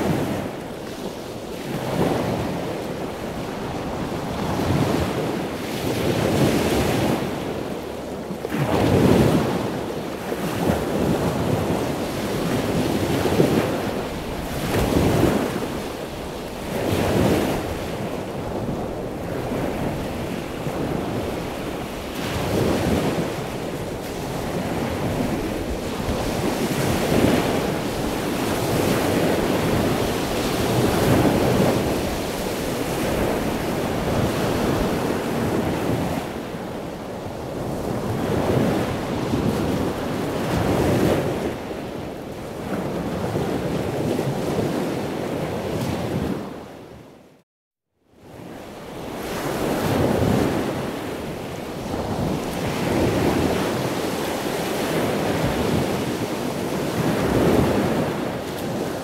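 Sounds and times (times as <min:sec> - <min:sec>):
ocean waves breaking on beach: 0:00.0 - 0:47.4, 0:48.2 - 0:59.0.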